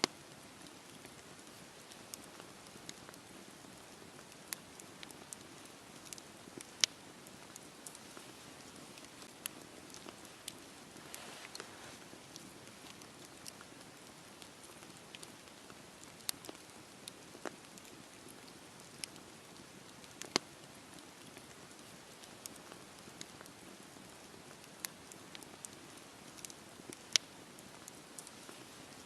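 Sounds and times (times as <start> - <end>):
burning wood crackling and popping: 0.0 - 29.0
campfire hissing: 0.0 - 29.0.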